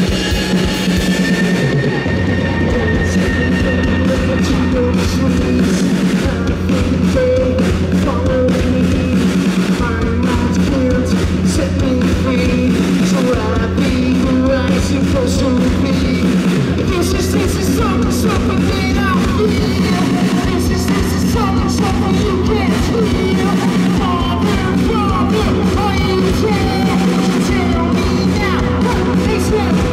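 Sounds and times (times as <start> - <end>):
low bass notes: 0.0 - 29.9
rock band playing live: 0.0 - 29.9
man singing into microphone: 2.3 - 29.9.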